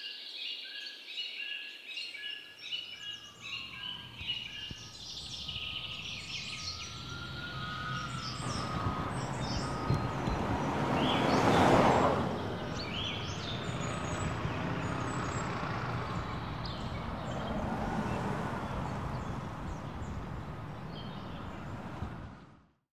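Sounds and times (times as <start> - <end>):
birds chirping: 2.9 - 22.4
low hum of traffic: 3.2 - 22.8
vehicle passing: 3.3 - 22.6.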